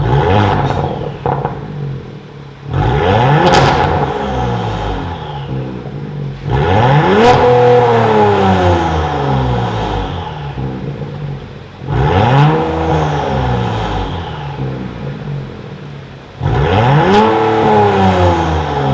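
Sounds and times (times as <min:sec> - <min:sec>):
car exhaust revving: 0:00.0 - 0:18.9.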